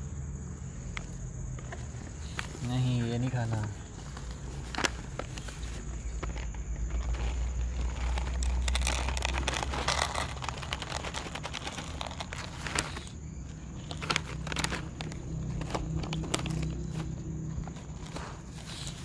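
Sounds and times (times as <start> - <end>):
plastic pouch crinkling: 1.6 - 19.0.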